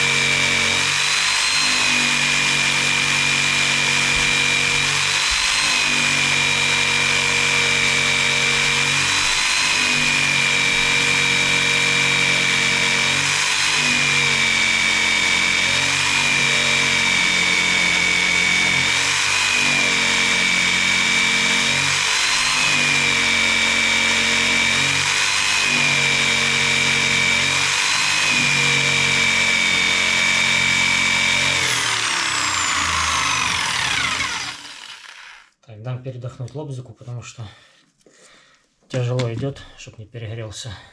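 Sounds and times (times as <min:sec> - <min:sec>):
electric jigsaw cutting wood: 0:00.0 - 0:35.6.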